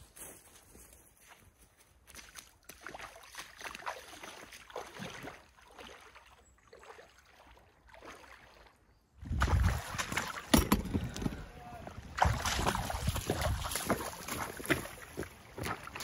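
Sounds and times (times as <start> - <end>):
boots wading through water: 1.1 - 16.0.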